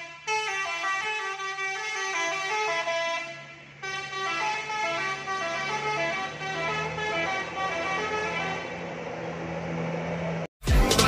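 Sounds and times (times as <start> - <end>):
musical bus horn melody: 0.0 - 9.2
diesel engine running: 1.0 - 10.5.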